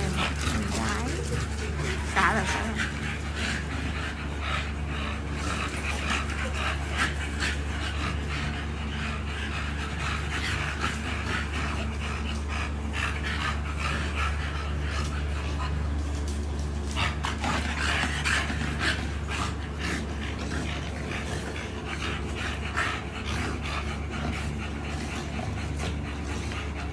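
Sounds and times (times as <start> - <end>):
dogs scuffling while wrestling: 0.0 - 4.1, 5.3 - 26.9
dogs panting hard: 0.0 - 26.9
steady low hum: 0.0 - 26.9.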